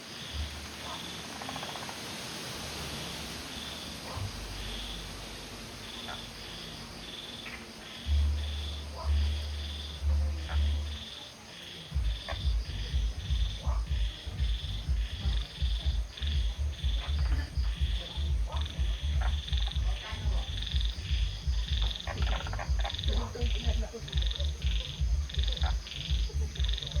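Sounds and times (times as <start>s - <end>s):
low rumble: 2.6s - 11.0s, 12.0s - 27.0s.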